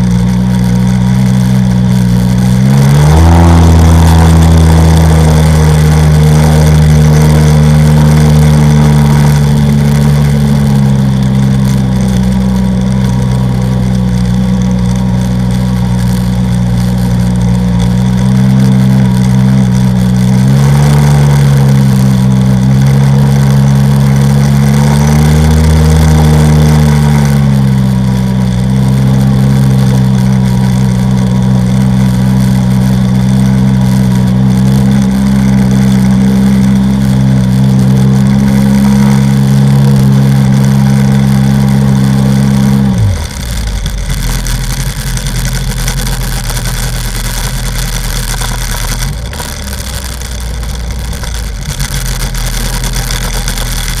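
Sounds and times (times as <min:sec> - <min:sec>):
watercraft engine running: 0:00.0 - 0:54.0.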